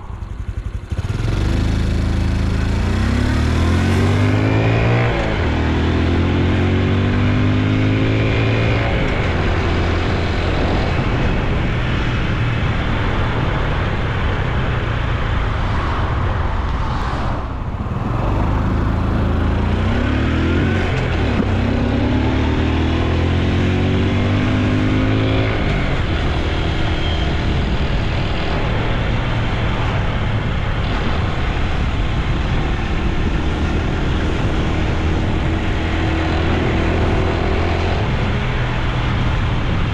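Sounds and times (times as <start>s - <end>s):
motorcycle engine accelerating: 0.0s - 13.7s, 17.1s - 39.9s.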